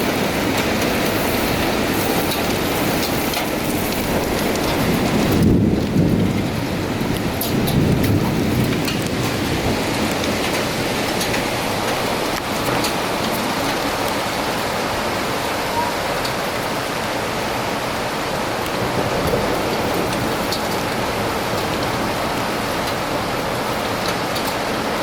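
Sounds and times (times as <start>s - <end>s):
heavy rain downpour: 0.0s - 25.0s.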